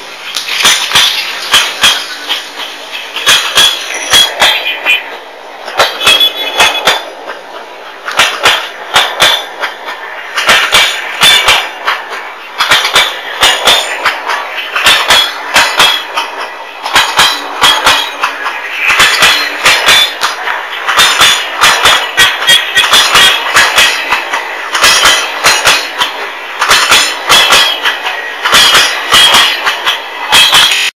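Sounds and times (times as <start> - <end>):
train rolling rumble: 0.0 - 30.9
train wheels clacking over rail joints: 0.0 - 30.9.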